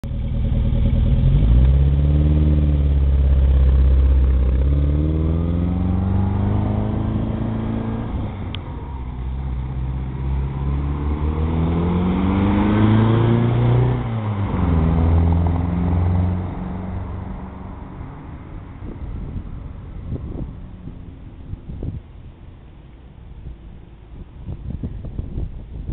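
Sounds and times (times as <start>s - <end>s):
car engine revving: 0.1s - 21.6s.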